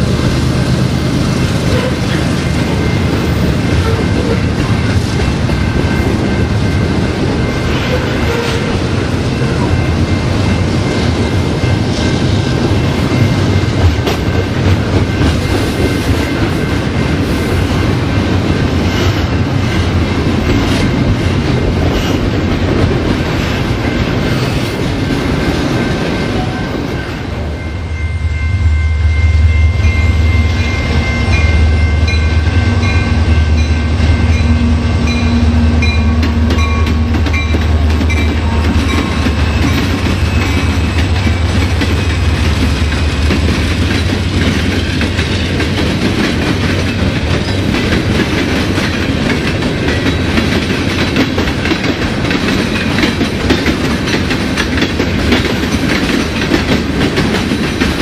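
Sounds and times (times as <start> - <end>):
diesel locomotive drone: 0.0 - 58.0.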